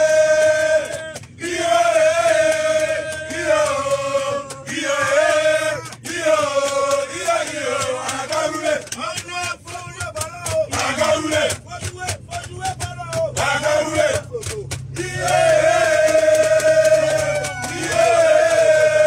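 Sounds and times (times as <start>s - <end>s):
men singing a chant: 0.0s - 19.0s.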